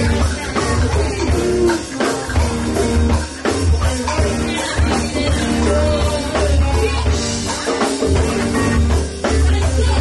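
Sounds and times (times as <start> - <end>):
drums steady beat: 0.0 - 10.0
electric guitar: 0.0 - 10.0
heavy bass line: 0.0 - 10.0
live rock band playing: 0.0 - 10.0.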